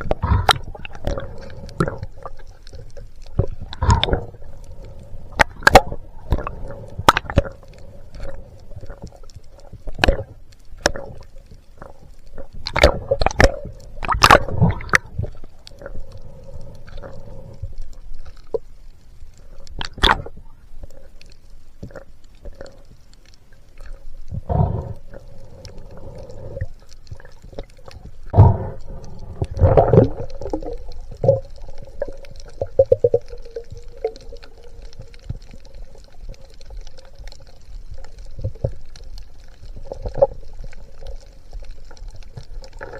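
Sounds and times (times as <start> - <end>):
water swishing and bubbling: 0.0 - 42.9.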